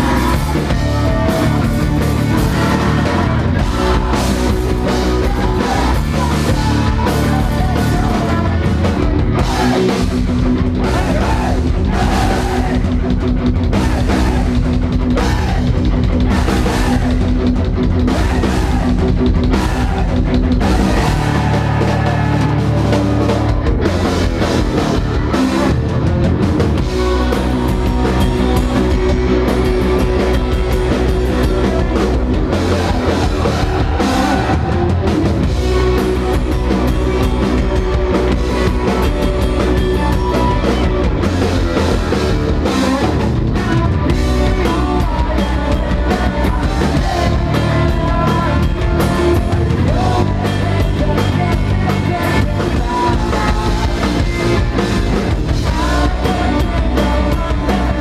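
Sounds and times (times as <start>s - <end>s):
drum kit beating: 0.0s - 58.0s
electric guitars: 0.0s - 58.0s.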